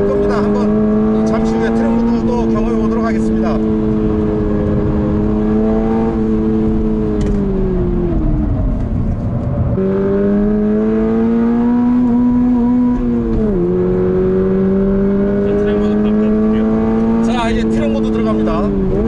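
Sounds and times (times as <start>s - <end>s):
car engine revving in cabin: 0.0s - 19.0s.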